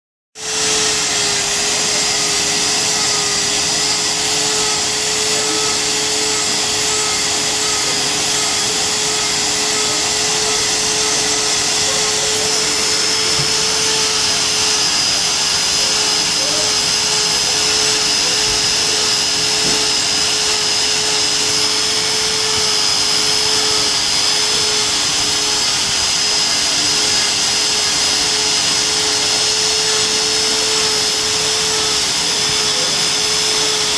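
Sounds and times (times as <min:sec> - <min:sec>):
grinding machine running: 0:00.4 - 0:33.9.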